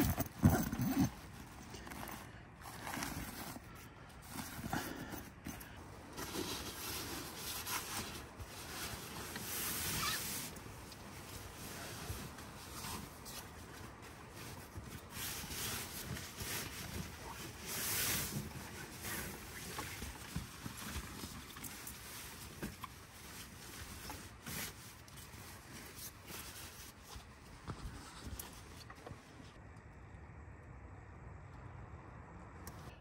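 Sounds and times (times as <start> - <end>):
tent fabric rustling: 0.0 - 29.5.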